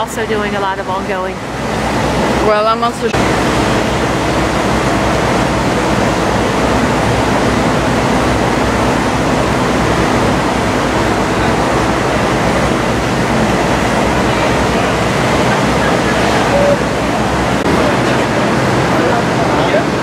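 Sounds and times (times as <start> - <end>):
traffic roar: 0.0 - 20.0.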